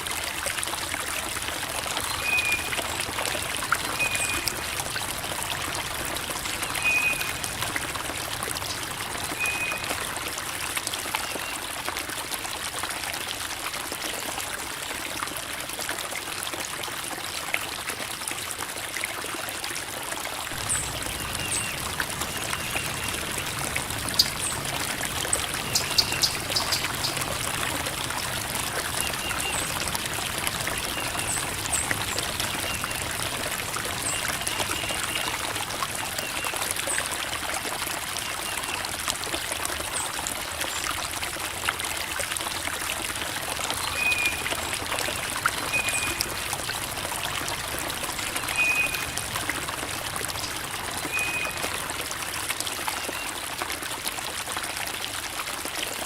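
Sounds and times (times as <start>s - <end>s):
creek water babbling over rocks: 0.0s - 56.0s.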